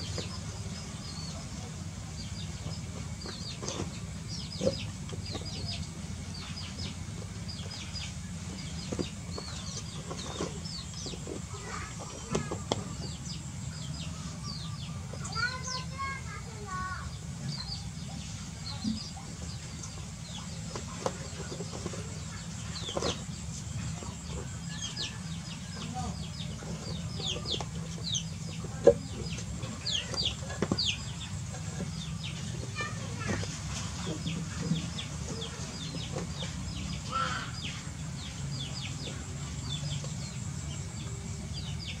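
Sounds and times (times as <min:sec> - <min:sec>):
birds chirping: 0:00.0 - 0:42.0
chicks peeping: 0:00.0 - 0:42.0.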